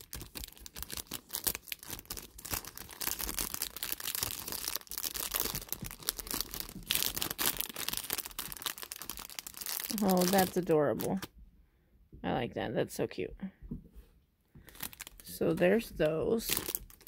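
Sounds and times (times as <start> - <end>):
plastic bags crinkling: 0.0 - 11.3, 14.6 - 17.0.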